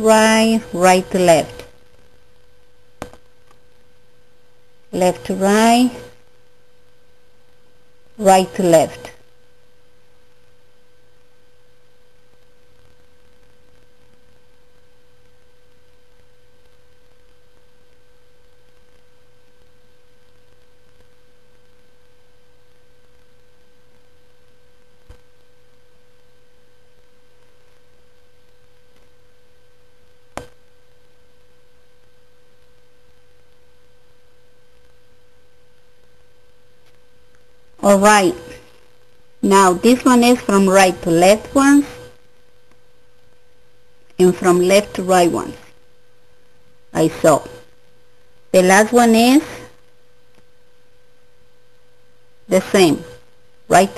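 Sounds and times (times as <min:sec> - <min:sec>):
steady electrical whine: 0:00.0 - 0:53.9.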